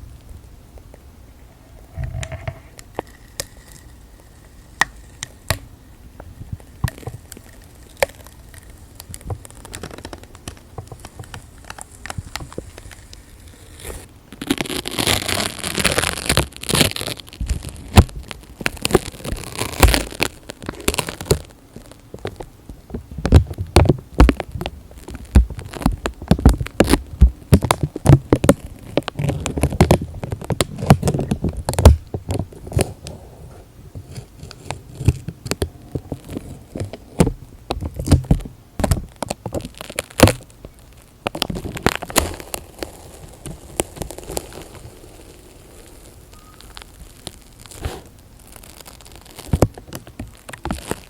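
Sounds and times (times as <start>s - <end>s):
crackles and clicks: 0.0s - 51.0s.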